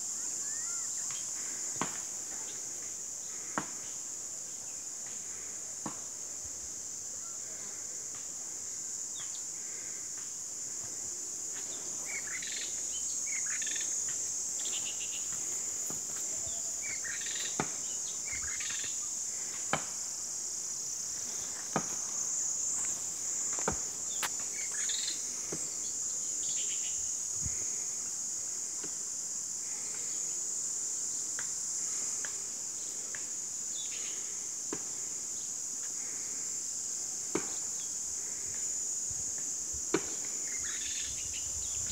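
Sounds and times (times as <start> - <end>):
insect chorus drone: 0.0 - 41.9.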